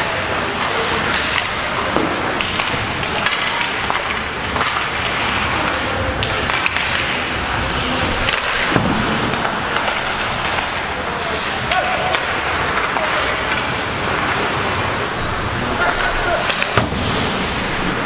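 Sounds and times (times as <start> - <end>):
hockey sticks and puck clacking: 0.0 - 18.0
ice arena hum: 0.0 - 18.0
skate blades scraping ice: 0.0 - 18.0.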